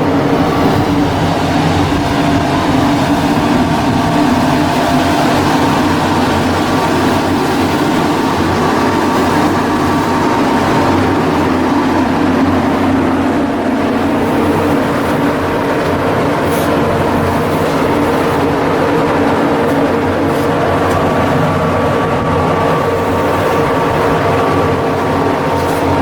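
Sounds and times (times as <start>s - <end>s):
heavy machinery droning: 0.0s - 26.0s.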